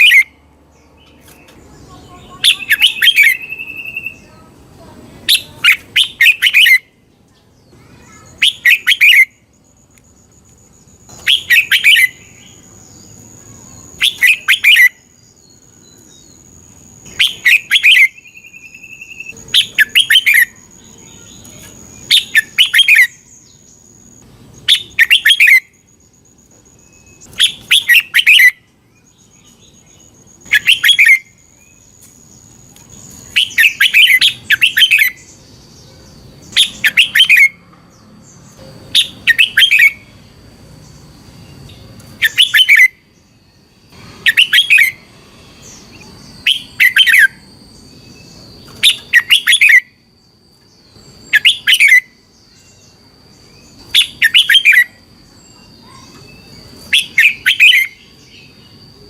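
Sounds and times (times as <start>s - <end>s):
bulbul singing: 0.0s - 59.0s
faint high-pitched whine: 0.0s - 59.0s.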